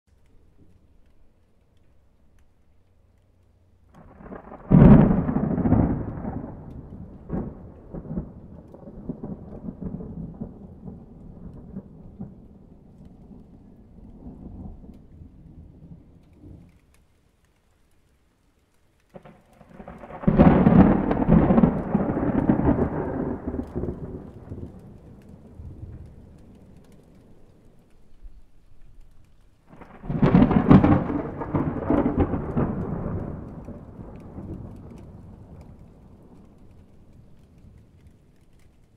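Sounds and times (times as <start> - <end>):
thunder clap and rumble: 3.9 - 16.8, 19.1 - 28.3, 29.7 - 38.9.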